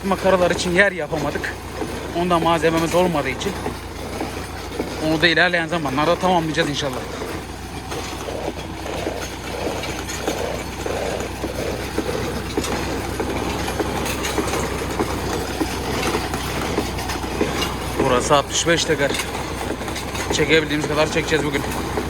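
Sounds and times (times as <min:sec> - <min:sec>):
metal implement rattling: 0:00.0 - 0:22.0
tractor engine running: 0:00.0 - 0:22.0.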